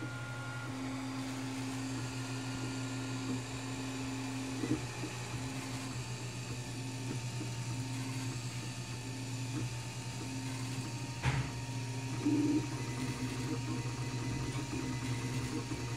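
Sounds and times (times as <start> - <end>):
motors buzzing: 0.0 - 15.9
stepper motors whining: 0.0 - 15.9.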